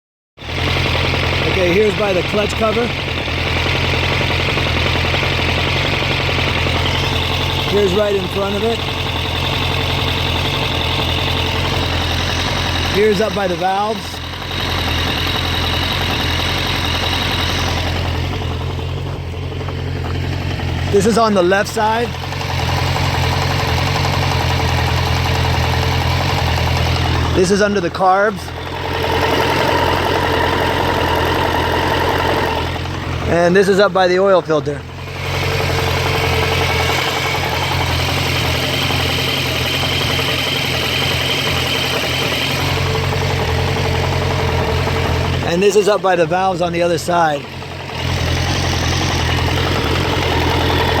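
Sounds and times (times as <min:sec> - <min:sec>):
motorcycle engine idling with knocking: 0:00.4 - 0:51.0.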